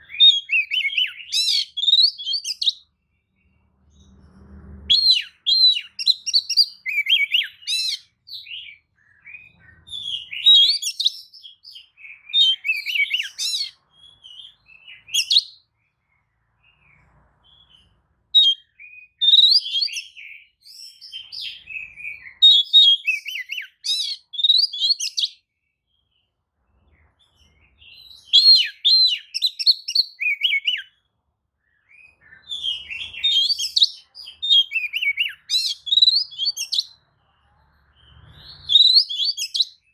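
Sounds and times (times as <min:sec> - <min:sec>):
magpie-robin singing: 0:00.0 - 0:04.2, 0:04.9 - 0:15.7, 0:16.6 - 0:37.1, 0:37.8 - 0:39.9.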